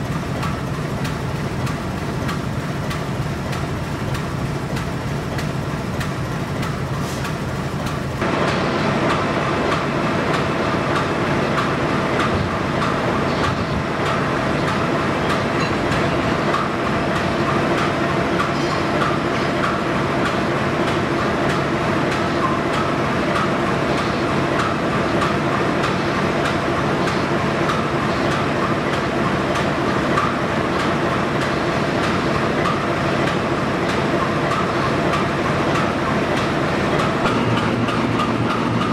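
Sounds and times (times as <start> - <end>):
locomotive diesel engine idling: 0.0 - 38.9.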